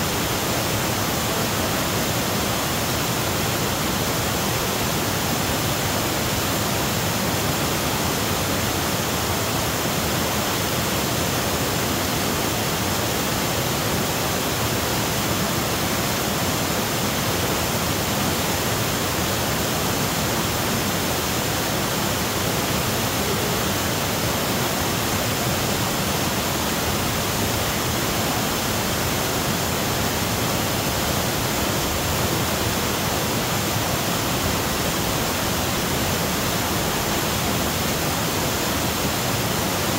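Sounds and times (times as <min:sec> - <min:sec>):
waterfall rushing over boulders: 0:00.0 - 0:39.9.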